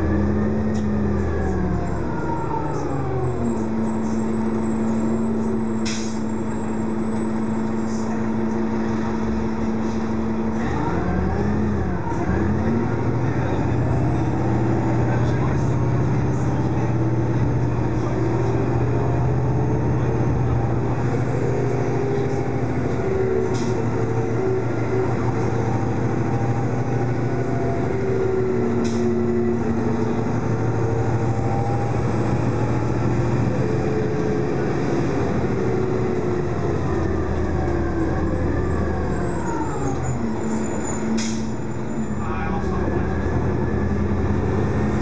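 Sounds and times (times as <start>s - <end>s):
bus engine droning: 0.0s - 45.0s.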